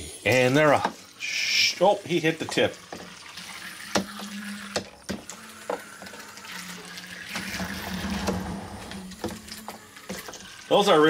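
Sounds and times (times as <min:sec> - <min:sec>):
churning water: 0:00.3 - 0:11.0.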